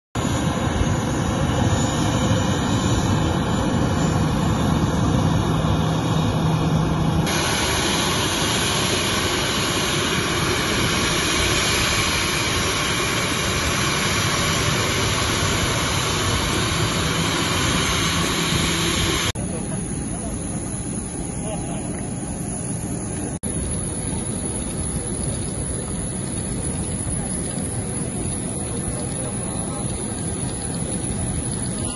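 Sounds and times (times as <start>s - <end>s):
jet engines rushing and whining: 0.2s - 31.9s.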